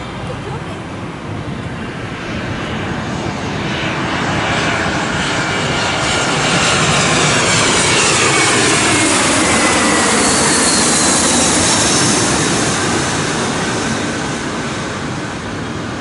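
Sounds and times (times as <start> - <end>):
jet airliner flying low: 0.0 - 16.0.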